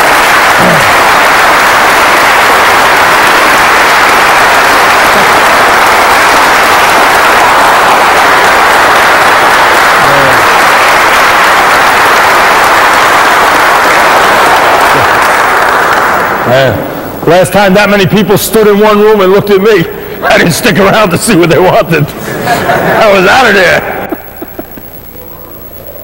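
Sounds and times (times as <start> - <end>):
crowd applause: 0.0 - 26.0.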